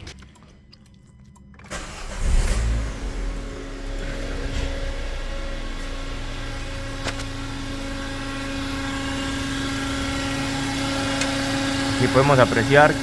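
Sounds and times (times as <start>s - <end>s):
car engine idling: 1.6s - 13.0s.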